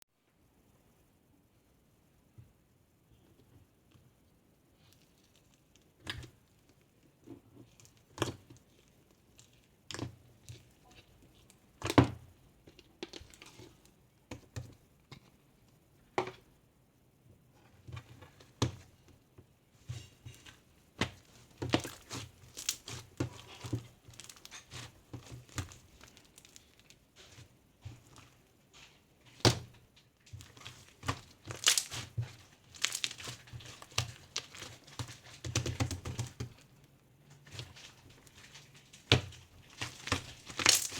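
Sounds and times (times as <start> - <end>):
crinkling handling noises: 4.8 - 16.4, 17.5 - 40.9.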